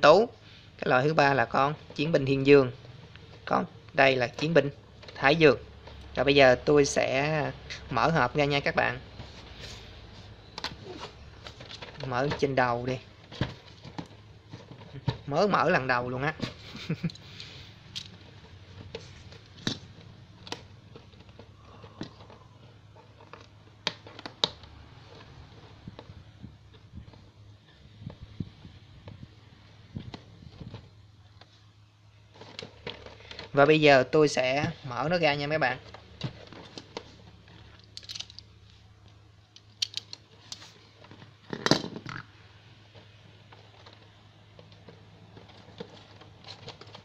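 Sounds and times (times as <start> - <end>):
cardboard and plastic crinkling: 7.7 - 38.9, 40.1 - 47.0.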